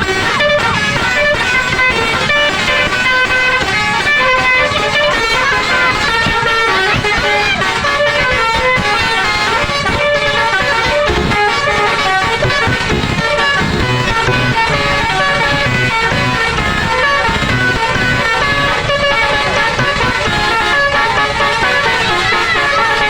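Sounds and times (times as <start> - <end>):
bus engine running: 0.0 - 23.0
multi-tone bus horn melody: 0.0 - 23.0.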